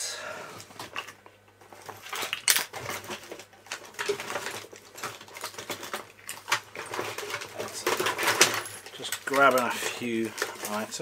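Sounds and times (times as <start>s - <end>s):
small objects rattling and clicking: 0.8s - 11.0s.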